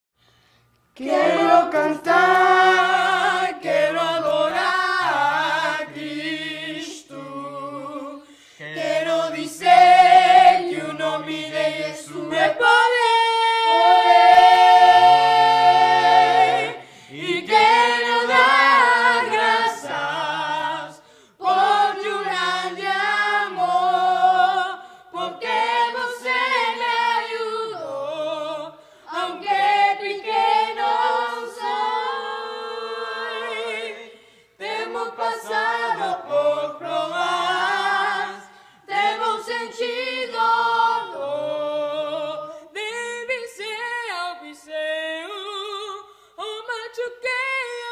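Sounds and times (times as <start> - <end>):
boys singing a cappella in harmony: 1.0 - 47.9.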